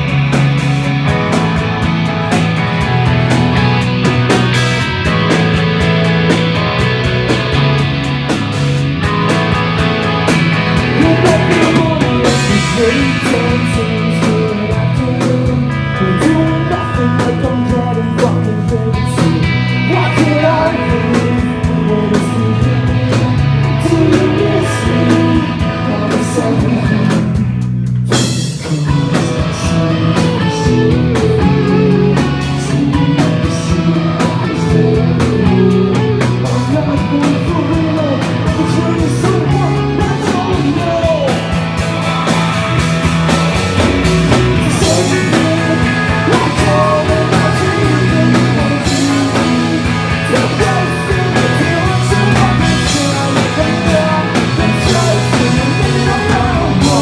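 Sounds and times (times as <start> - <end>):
drum kit: 0.0 - 57.0
electric guitars: 0.0 - 57.0
person singing: 10.2 - 42.6, 43.6 - 57.0.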